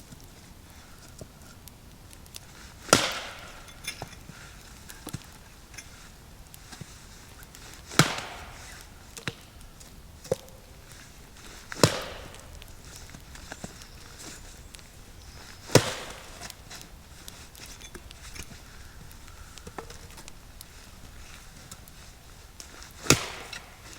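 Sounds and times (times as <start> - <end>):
heavy wood chopping blows: 2.5 - 6.1, 6.7 - 23.9.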